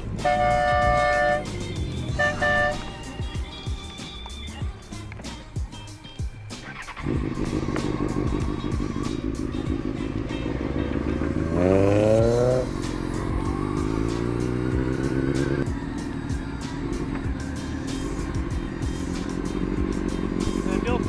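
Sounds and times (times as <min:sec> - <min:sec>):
motorcycle engine revving: 0:00.0 - 0:04.0, 0:06.5 - 0:21.0
background music: 0:00.0 - 0:21.0.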